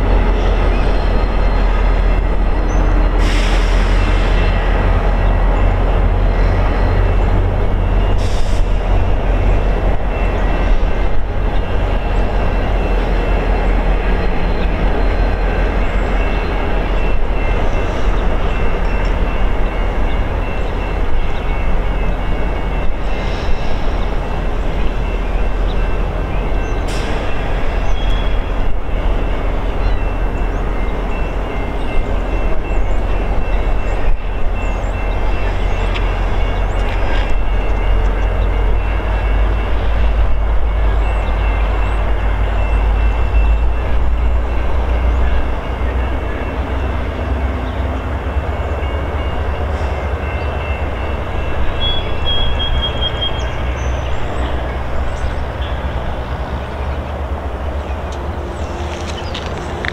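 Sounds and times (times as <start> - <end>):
diesel locomotive engine drone: 0.0 - 59.9
train rolling rumble: 0.0 - 59.9.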